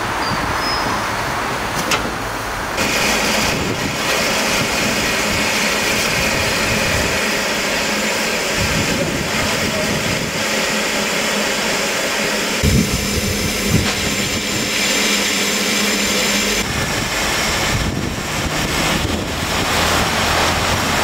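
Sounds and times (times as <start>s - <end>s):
steam hissing from locomotive: 2.8s - 21.0s.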